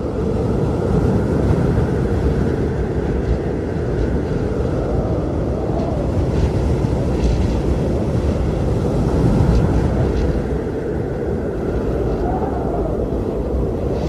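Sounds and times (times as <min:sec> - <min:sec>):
blizzard wind rumbling: 0:00.0 - 0:14.0
wind howling: 0:00.0 - 0:14.0.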